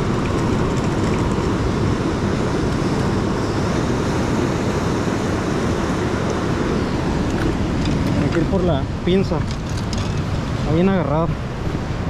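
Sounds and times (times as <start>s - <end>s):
surf washing against shore: 0.0s - 12.0s
wind buffeting microphone: 0.0s - 12.0s.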